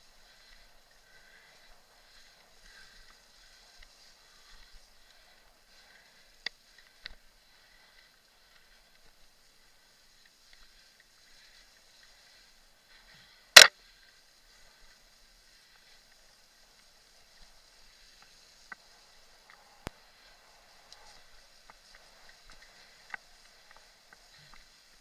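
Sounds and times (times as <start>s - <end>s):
bike and trail rustle: 0.0s - 25.0s.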